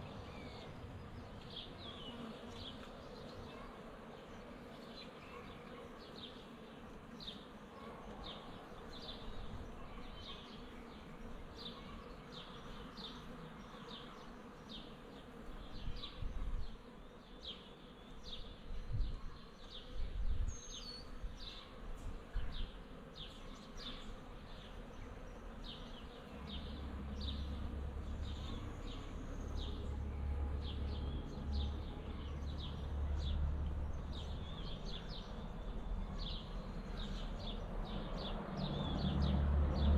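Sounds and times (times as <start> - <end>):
honeybees buzzing: 0.0 - 18.9, 19.5 - 39.9.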